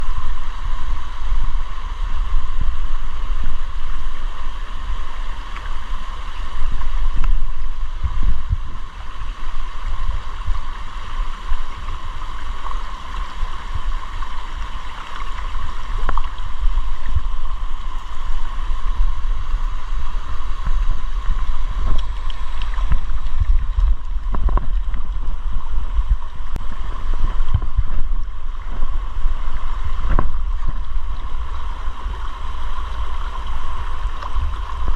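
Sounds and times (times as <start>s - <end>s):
low rumble: 0.0s - 34.9s
stream water rushing: 0.0s - 34.9s.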